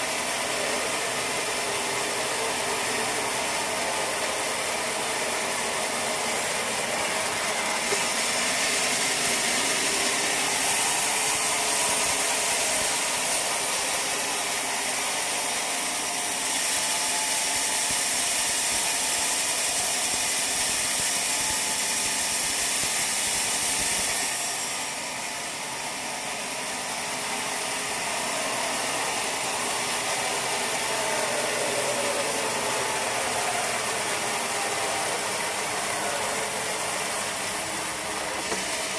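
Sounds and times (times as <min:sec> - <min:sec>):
sawmill machinery clattering: 0:00.0 - 0:38.9.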